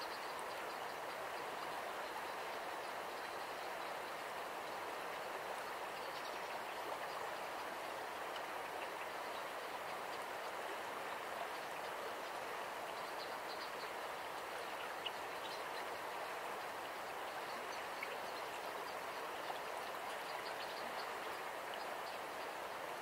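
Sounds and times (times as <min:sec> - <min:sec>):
water ticks and splashes: 0:00.0 - 0:23.0.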